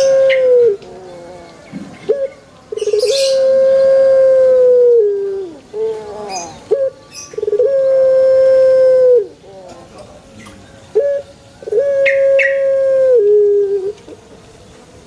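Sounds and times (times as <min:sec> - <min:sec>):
dove cooing: 0:00.0 - 0:14.3.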